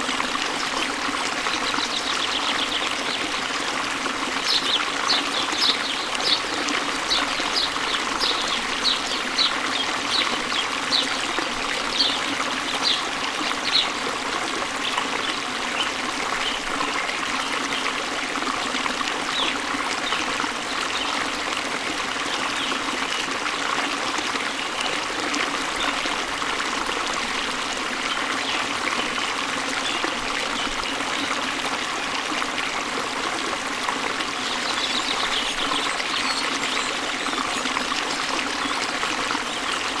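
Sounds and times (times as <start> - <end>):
stream babbling over stones: 0.0 - 40.0.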